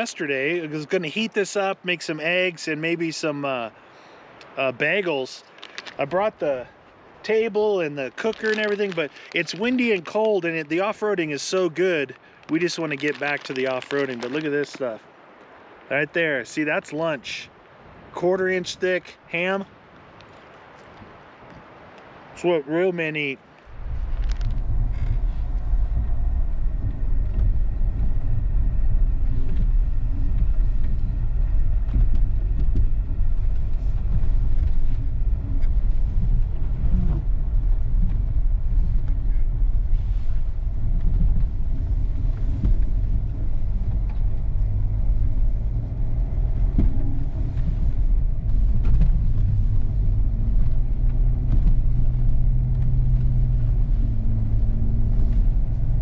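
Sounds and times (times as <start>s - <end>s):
vehicle engine rumbling: 3.7s - 16.0s, 23.4s - 56.0s.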